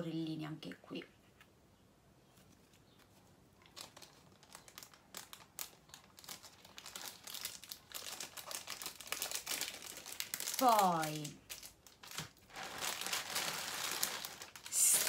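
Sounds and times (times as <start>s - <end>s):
plastic packaging crinkling: 2.5s - 15.0s.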